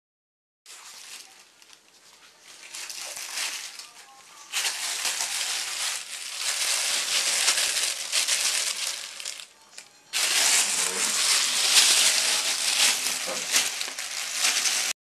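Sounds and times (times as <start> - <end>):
plastic bag rustling: 0.7 - 9.5, 10.1 - 15.0.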